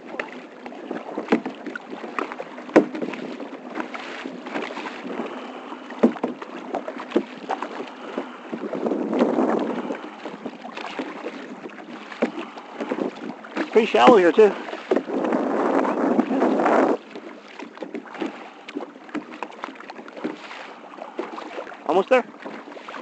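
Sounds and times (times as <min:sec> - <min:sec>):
paddle splashing in water: 0:00.0 - 0:23.0
swish of water: 0:00.0 - 0:23.0.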